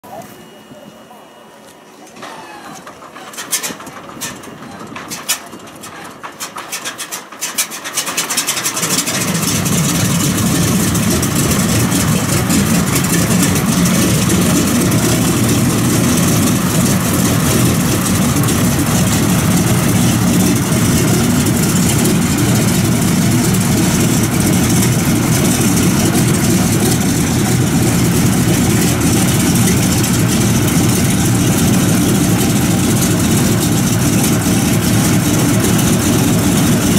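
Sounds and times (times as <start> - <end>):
radial aircraft engine starting: 0.2 - 36.9.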